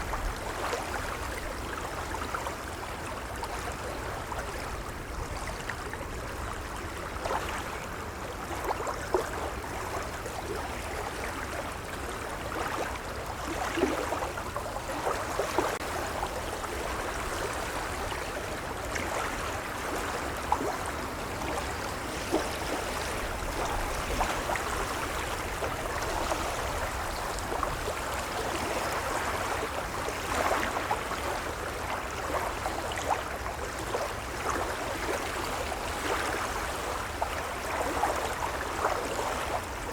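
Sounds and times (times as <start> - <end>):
gentle waves lapping: 0.0 - 39.9.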